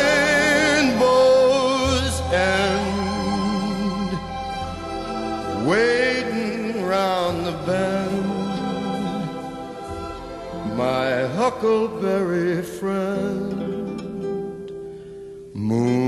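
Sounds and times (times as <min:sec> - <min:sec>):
sustained accompaniment: 0:00.0 - 0:13.2
person singing with vibrato: 0:00.0 - 0:16.0.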